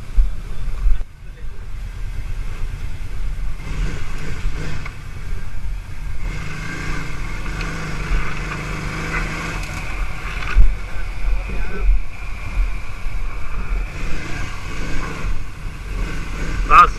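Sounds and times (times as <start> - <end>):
quad engine running: 0.0 - 16.9.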